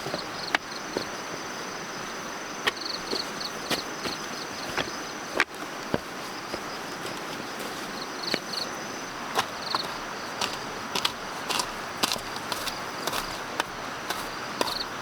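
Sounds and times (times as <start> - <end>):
insects chirping and buzzing: 0.0 - 15.0.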